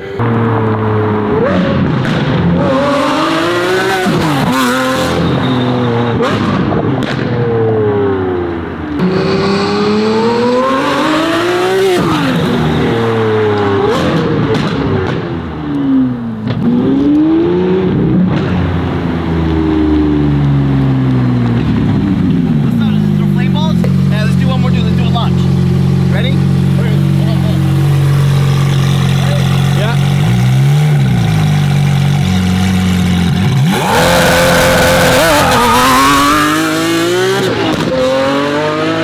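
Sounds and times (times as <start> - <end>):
sports car engine revving: 0.0 - 39.0.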